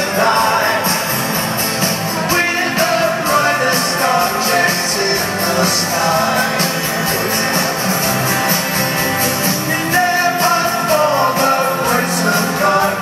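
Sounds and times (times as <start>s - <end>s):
man singing lead: 0.0s - 7.8s, 9.5s - 13.0s
live rock band playing: 0.0s - 13.0s
steady drum beat: 0.0s - 13.0s.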